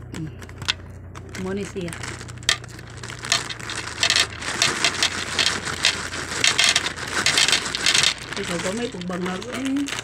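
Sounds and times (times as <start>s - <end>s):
candies clattering onto table: 0.4s - 10.0s
plastic snack bag crinkling: 0.4s - 10.0s.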